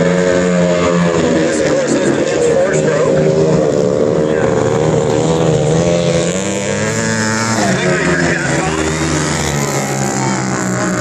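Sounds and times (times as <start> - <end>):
motorcycle engines racing: 0.0 - 11.0.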